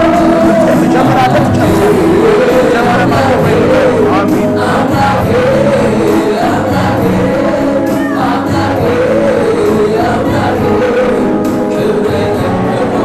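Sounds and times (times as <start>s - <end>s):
group of voices singing: 0.0s - 13.0s
sustained instrumental notes: 0.0s - 13.0s.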